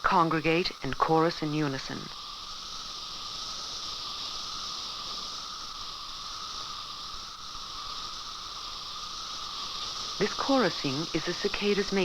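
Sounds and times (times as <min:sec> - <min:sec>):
cicadas buzzing in chorus: 0:00.0 - 0:12.0.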